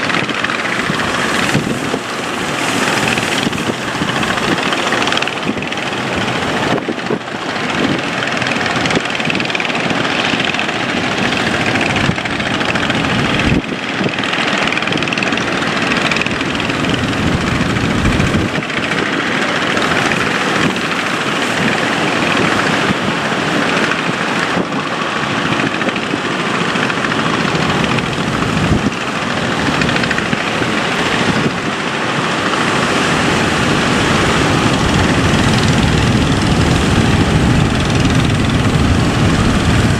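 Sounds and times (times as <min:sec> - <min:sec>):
boat engine: 0:00.0 - 0:39.9
rushing water: 0:00.0 - 0:39.9
wind: 0:00.0 - 0:39.9.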